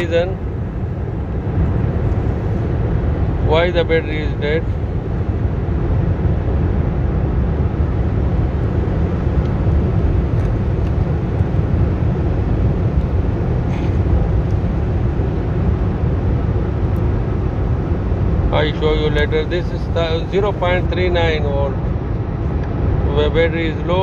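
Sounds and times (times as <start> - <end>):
low rumbling background noise: 0.0 - 24.0.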